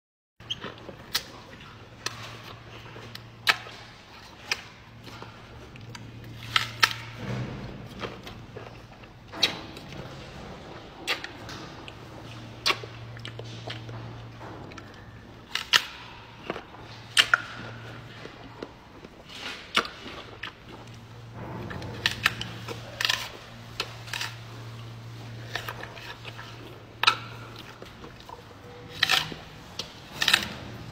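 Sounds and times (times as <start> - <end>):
gorilla chewing apple: 0.4 - 30.9
low hum: 1.8 - 30.9.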